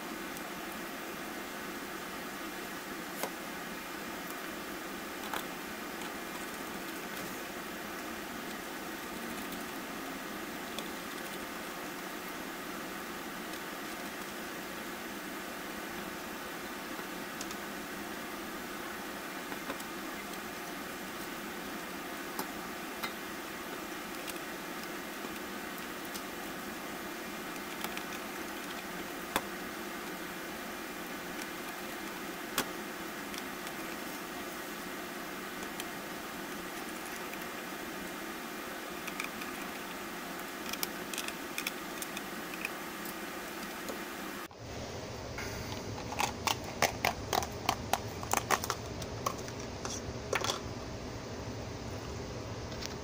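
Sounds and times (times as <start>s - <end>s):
steady hiss: 0.0s - 48.2s.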